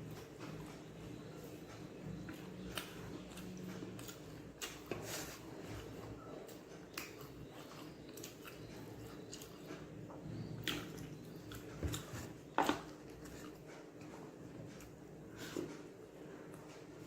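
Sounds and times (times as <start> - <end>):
person chewing and smacking: 0.0 - 15.1.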